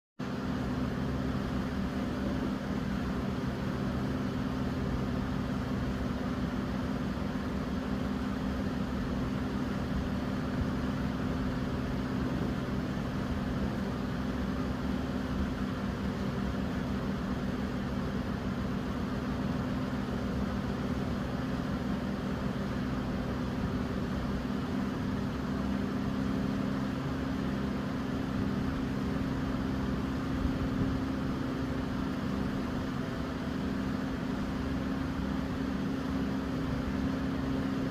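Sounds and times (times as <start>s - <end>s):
fan motor hum: 0.2s - 37.9s
electric fan air rush: 0.3s - 37.9s.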